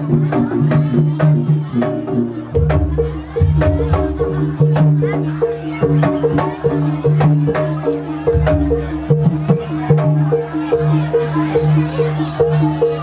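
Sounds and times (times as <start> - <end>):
pitched percussion pattern: 0.0 - 13.0.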